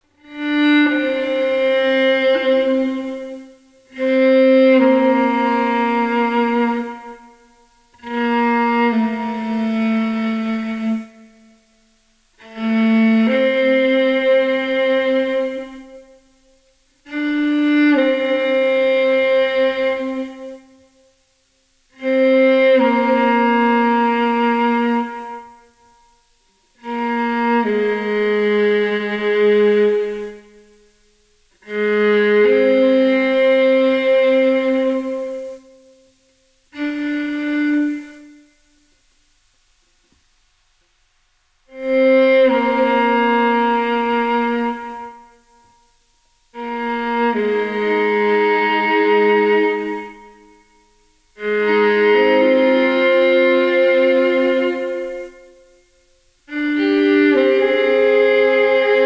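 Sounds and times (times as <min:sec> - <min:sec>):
viola bowed slowly: 0:00.0 - 0:39.2, 0:41.6 - 0:59.0.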